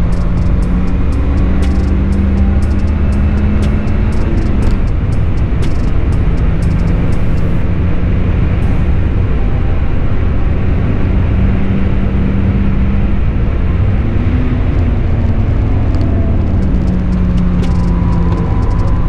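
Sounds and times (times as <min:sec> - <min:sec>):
car engine at full throttle: 0:00.0 - 0:19.0
wind and road noise: 0:00.0 - 0:19.0.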